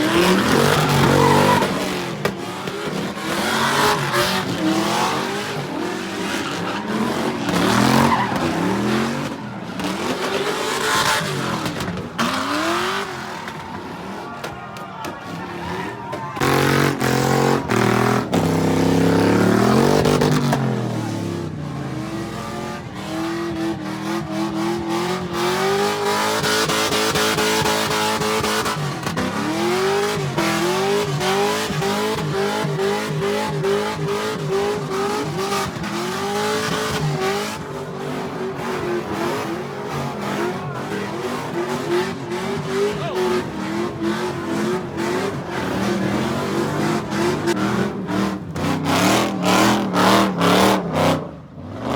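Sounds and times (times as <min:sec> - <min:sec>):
car engine revving hard: 0:00.0 - 0:14.2, 0:16.4 - 0:51.9.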